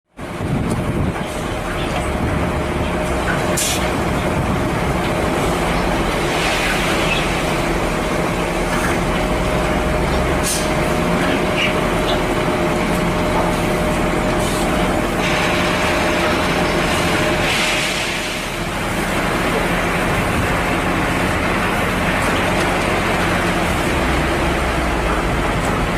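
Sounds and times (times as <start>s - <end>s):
diesel truck engine running: 0.2s - 25.9s
steady whine: 0.2s - 25.9s.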